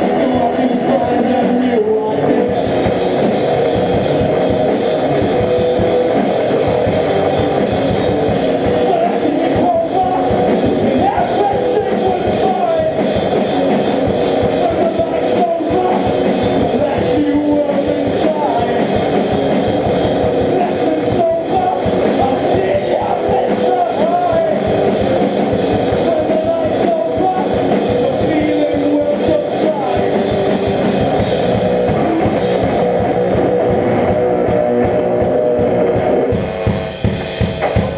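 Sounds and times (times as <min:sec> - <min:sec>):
rock band playing: 0:00.0 - 0:37.9.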